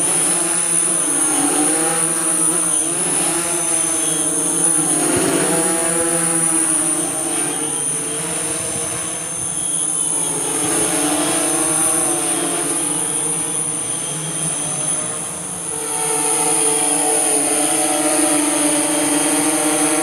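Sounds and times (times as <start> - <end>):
drone rotors humming: 0.0 - 20.0.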